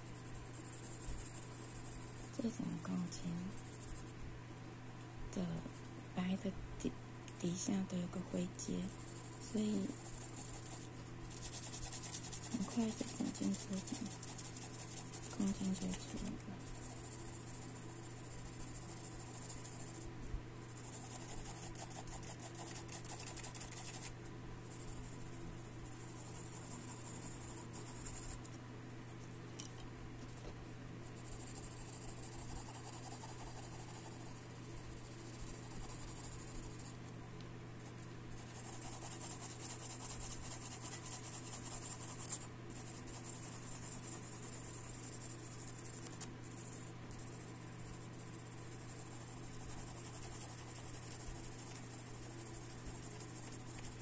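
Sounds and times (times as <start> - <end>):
pencil scratching on paper: 0.0 - 4.2, 8.6 - 20.1, 20.7 - 28.5, 30.3 - 37.0, 38.4 - 54.0.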